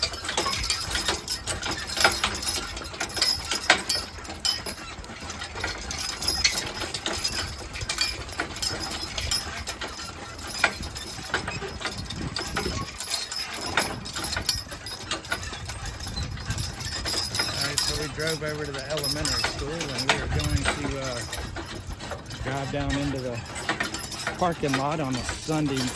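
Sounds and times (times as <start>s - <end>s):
horse hooves clip-clopping: 0.0s - 25.9s.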